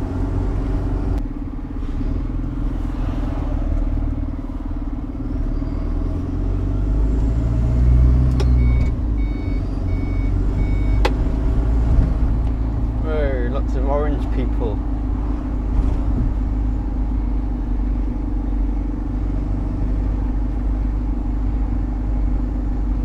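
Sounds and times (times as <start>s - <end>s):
lorry diesel engine droning: 0.0s - 23.0s
road noise: 0.0s - 23.0s.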